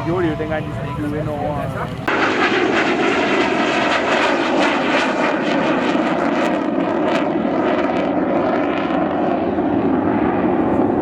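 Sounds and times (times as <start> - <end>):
plane flying low overhead: 0.0 - 11.0.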